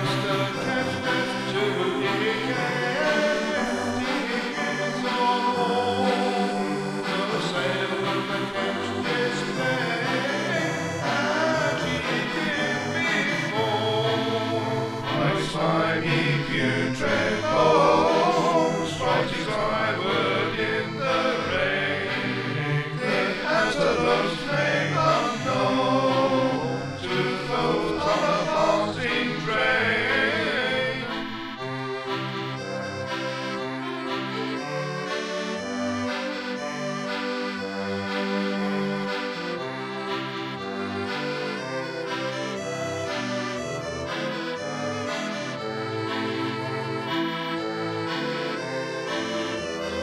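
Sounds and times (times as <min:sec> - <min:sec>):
accordion: 0:00.0 - 0:50.0
folk song with voices and instruments: 0:00.0 - 0:50.0.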